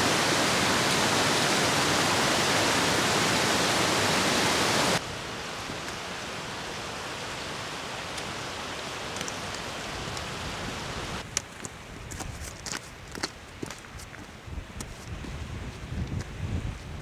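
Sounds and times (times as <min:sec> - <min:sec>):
rushing wind and water: 0:00.0 - 0:17.0.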